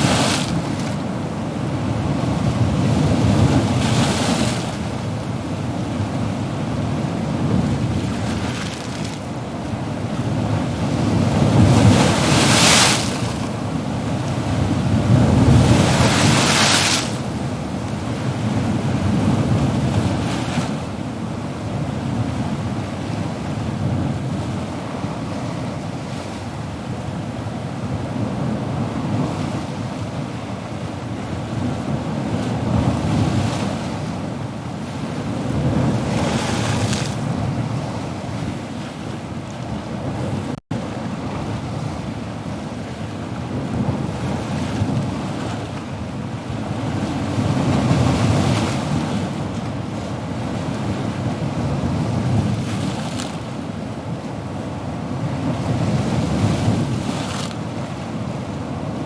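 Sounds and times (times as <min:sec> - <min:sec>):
ocean waves breaking: 0:00.0 - 0:21.0, 0:30.6 - 0:59.0.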